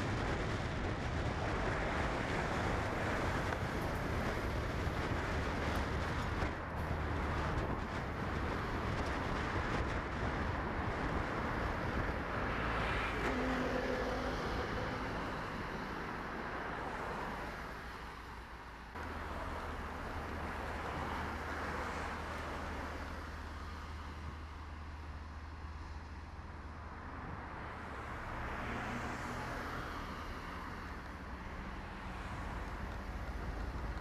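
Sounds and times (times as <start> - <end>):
vehicle road noise: 0.0 - 34.0.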